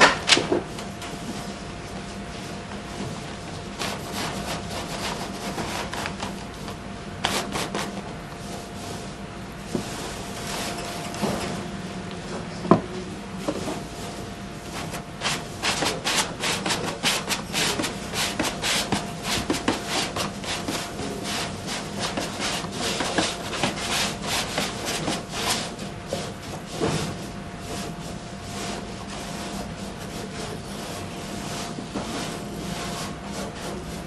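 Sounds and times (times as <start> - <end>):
paper rustling and scraping: 3.0 - 11.6, 13.5 - 34.0.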